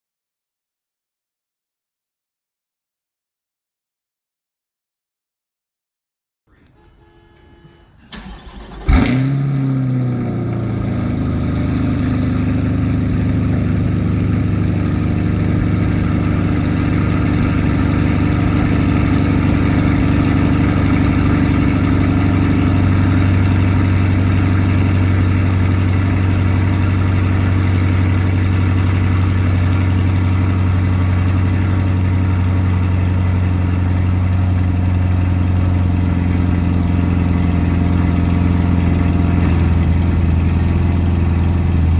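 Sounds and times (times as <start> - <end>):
car engine cold start and idle: 6.5 - 41.9.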